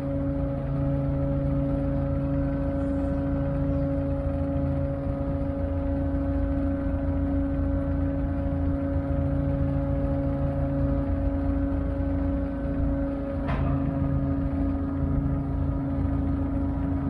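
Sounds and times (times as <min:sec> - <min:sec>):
ship diesel engines rumbling: 0:00.0 - 0:17.0.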